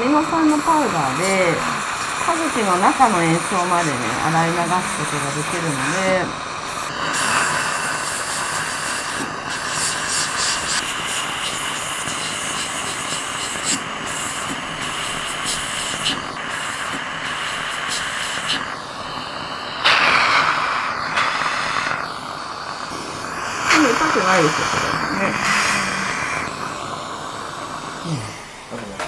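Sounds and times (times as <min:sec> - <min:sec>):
suction tip drawing spray: 0:00.0 - 0:28.4
dental air-polisher hissing: 0:00.0 - 0:29.0.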